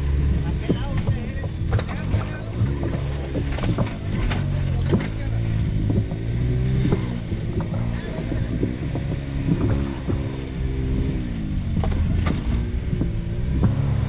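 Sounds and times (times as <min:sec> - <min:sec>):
engine running at low revs: 0:00.0 - 0:14.0
sharp knocks: 0:00.5 - 0:10.7, 0:11.7 - 0:14.0.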